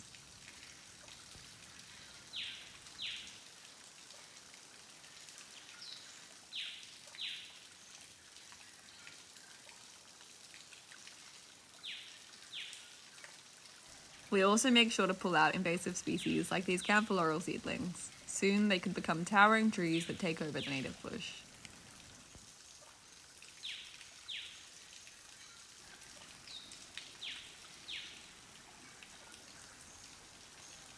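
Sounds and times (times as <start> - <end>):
faint background hiss: 0.0 - 30.9.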